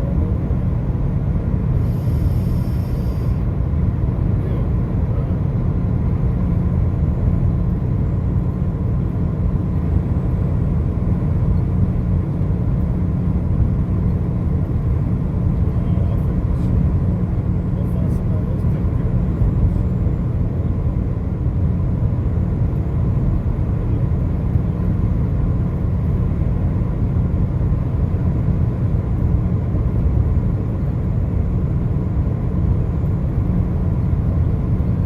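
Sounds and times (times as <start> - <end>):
vehicle tyre and road noise: 0.0 - 35.0.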